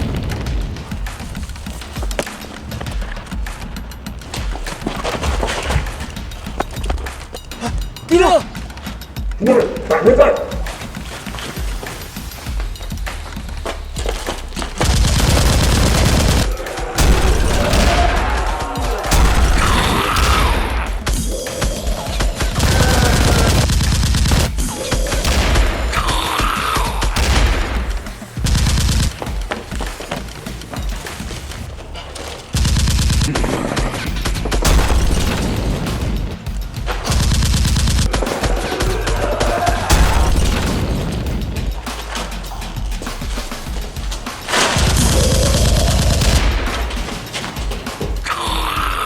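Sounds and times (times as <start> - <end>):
rapid gunfire: 0.0 - 8.5, 9.4 - 31.8, 32.5 - 49.0
action music: 0.0 - 49.0.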